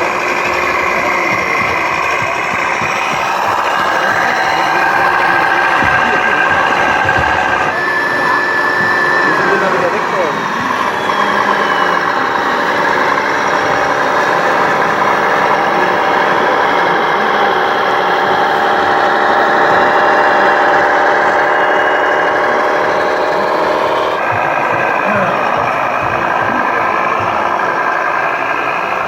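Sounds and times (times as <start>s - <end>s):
model vehicle motor humming: 0.0s - 29.0s
motor whine: 0.0s - 29.0s.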